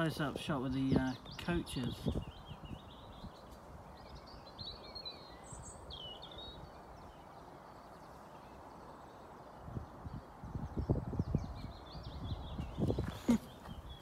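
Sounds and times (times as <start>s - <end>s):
birds chirping: 0.0s - 14.0s
low outdoor background rush: 0.0s - 14.0s.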